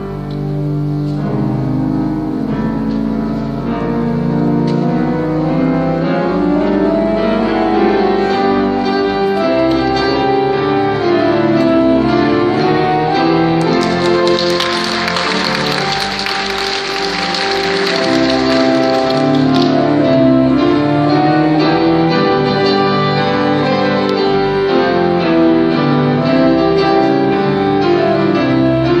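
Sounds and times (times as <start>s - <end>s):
piano and organ playing chords: 0.0s - 29.0s.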